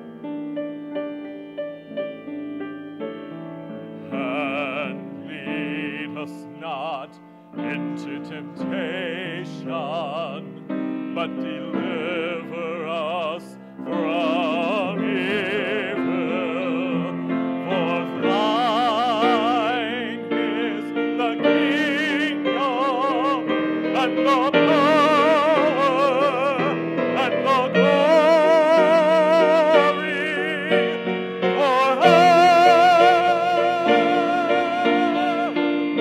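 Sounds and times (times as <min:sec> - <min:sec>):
held keyboard accompaniment: 0:00.0 - 0:36.0
man singing operatically: 0:04.0 - 0:36.0.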